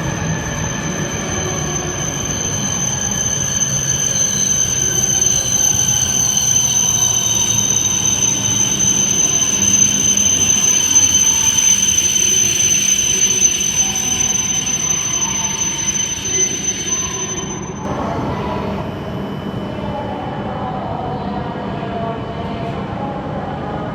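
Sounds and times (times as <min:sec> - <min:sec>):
train rushing noise: 0:00.0 - 0:20.4
train high-pitched whine: 0:00.0 - 0:22.3.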